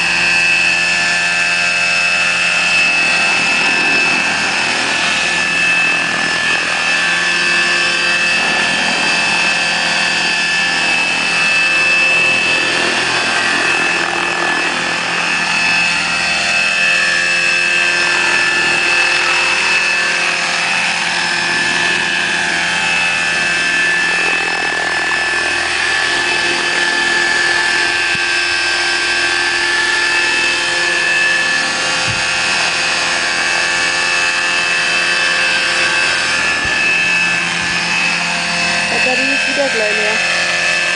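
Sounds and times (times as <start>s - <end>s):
high-pitched electric whine: 0.0s - 40.9s
rotor blades rushing: 0.0s - 40.9s.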